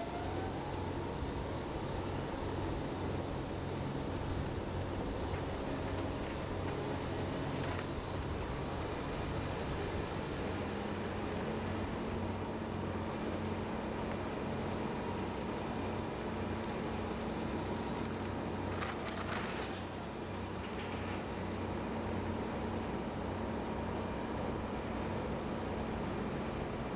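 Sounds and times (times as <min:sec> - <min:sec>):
fire engine pumps running: 0:00.0 - 0:26.9.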